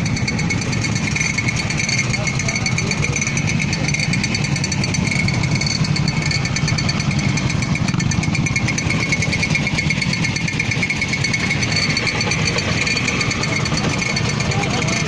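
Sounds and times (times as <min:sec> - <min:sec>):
moped engine buzzing: 0:00.0 - 0:15.0.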